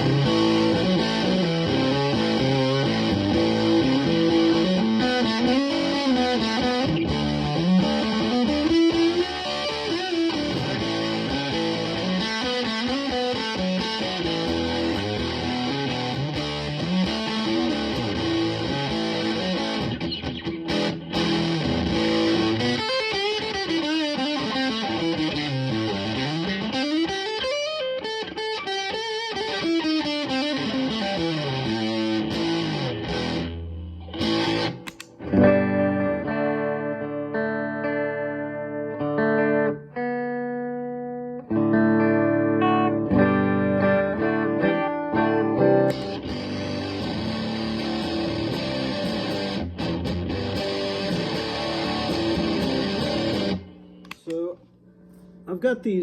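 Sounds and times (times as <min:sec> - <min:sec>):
fuzz electric guitar riffs: 0:00.0 - 0:54.5.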